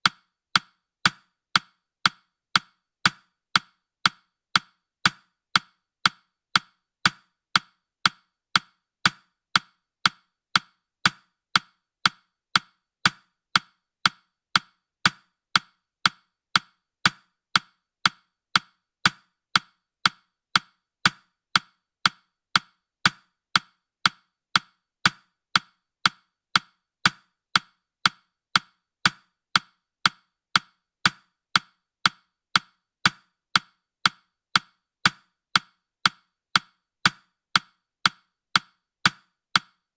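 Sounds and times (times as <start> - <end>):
woodblock-like timer ticks: 0.0 - 39.9.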